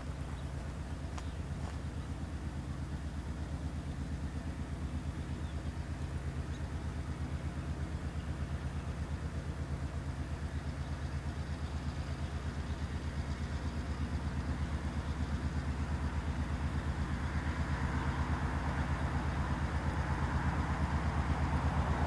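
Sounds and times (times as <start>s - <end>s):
diesel locomotive engine throbbing: 0.0s - 22.0s.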